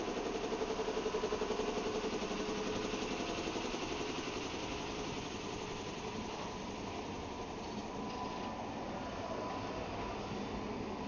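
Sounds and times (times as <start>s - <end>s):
train machinery humming and pulsing: 0.0s - 11.0s.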